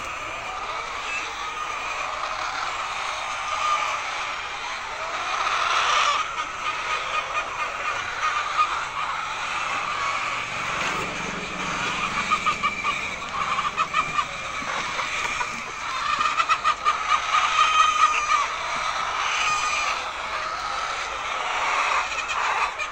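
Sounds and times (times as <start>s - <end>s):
hens clucking and cackling: 0.0s - 22.9s.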